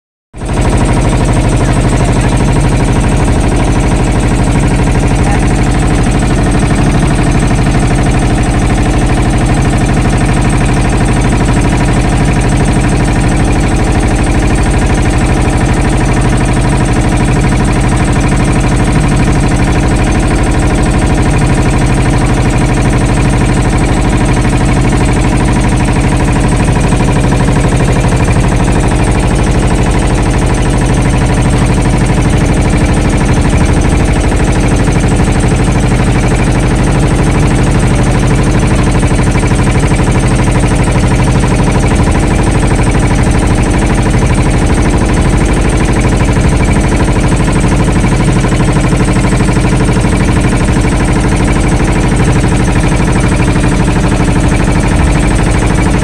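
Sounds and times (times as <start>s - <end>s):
boat motor running: 0.4s - 56.0s.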